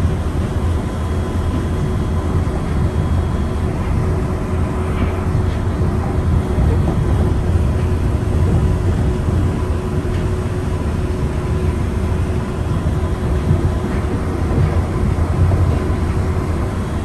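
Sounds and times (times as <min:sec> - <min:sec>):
train interior low rumble: 0:00.0 - 0:17.0.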